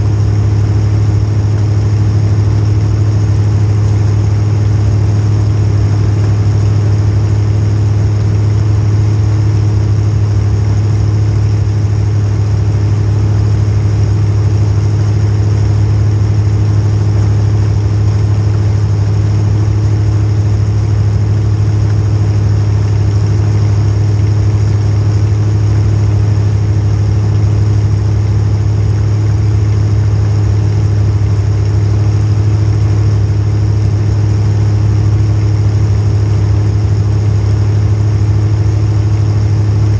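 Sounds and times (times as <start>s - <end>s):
car engine idling loudly: 0.0s - 39.9s.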